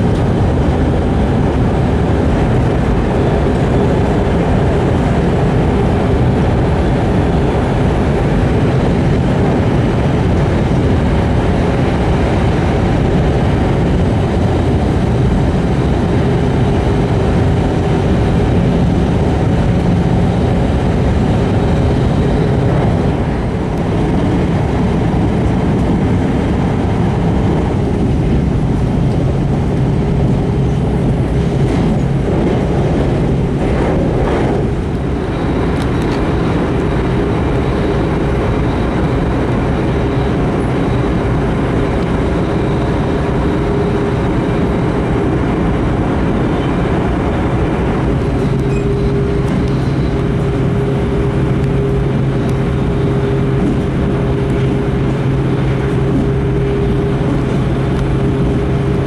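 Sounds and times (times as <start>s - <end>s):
train cabin running rumble: 0.0s - 59.0s.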